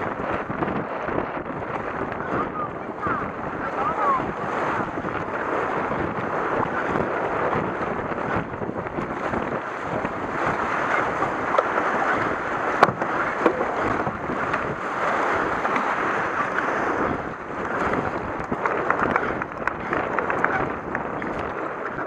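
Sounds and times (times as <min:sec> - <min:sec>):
paddle strokes churning water: 0:00.0 - 0:22.0
river water rushing and splashing: 0:00.0 - 0:22.0
wind noise on microphone: 0:00.0 - 0:22.0.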